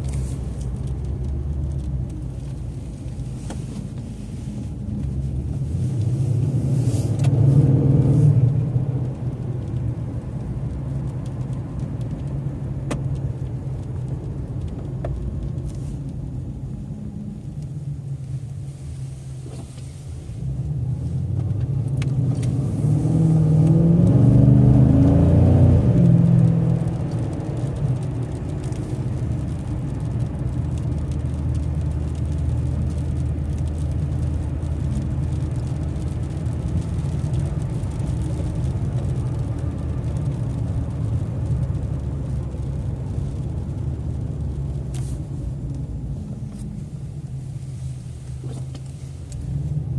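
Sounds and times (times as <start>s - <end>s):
car exhaust drone from inside cabin: 0.0s - 49.9s.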